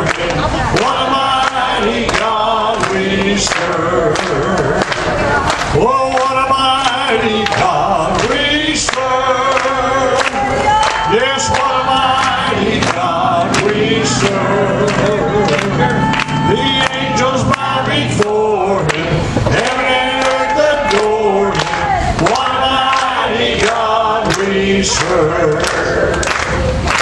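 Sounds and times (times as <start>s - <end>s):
congregation singing gospel: 0.0s - 27.0s.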